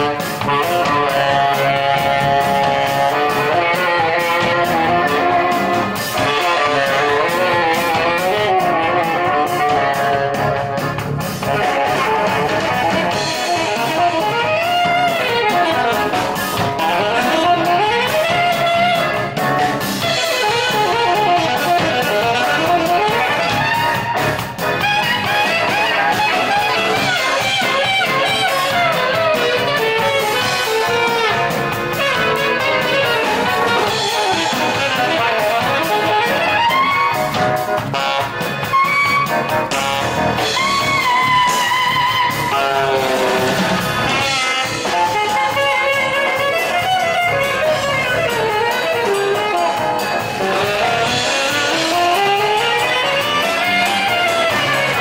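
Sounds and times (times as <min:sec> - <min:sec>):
alto saxophone solo: 0:00.0 - 0:55.0
band playing live: 0:00.0 - 0:55.0.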